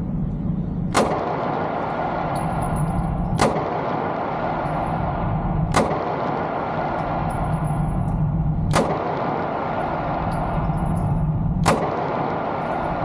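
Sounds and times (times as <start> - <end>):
steady rushing background noise: 0.0 - 13.0
pistol shots: 0.9 - 13.0.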